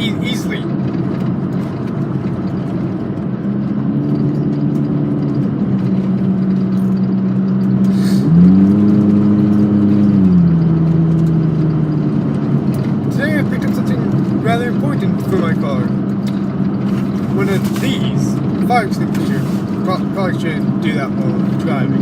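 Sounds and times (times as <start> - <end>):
car engine droning: 0.0 - 22.0.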